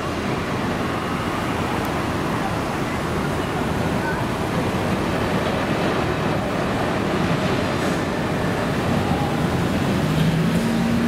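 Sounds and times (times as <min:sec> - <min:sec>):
road traffic: 0:00.0 - 0:11.0
tram wheels on rails: 0:00.0 - 0:11.0.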